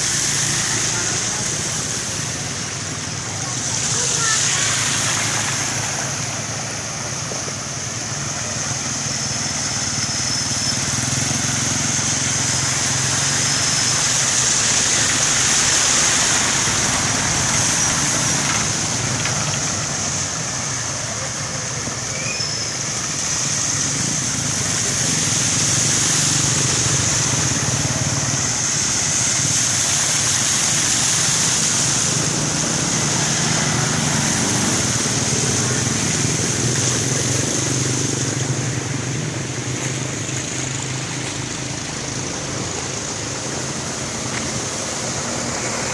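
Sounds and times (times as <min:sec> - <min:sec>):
constant high hiss: 0:00.0 - 0:45.9.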